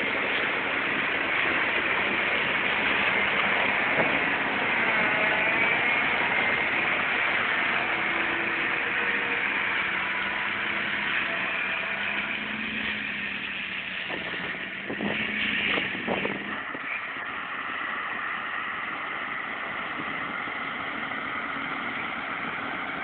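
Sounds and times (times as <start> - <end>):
tractor engine drone: 0.0 - 23.0
mower head whine: 2.0 - 23.0.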